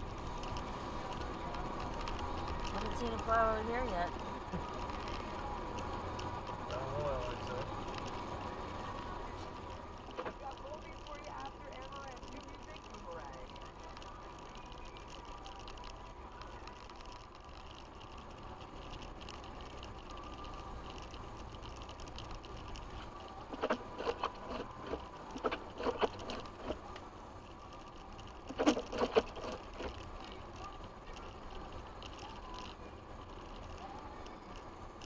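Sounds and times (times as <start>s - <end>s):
truck engine and road rumble: 0.0s - 35.0s.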